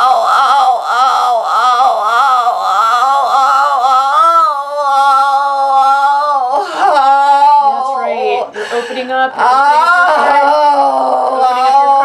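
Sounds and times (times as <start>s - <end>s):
person's sustained wordless vocal: 0.0s - 12.0s.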